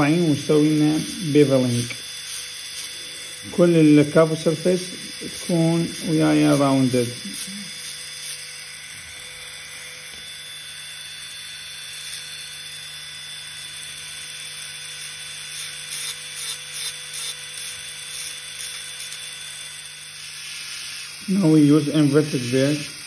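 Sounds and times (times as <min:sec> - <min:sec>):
dental drill whining: 0:00.0 - 0:23.0.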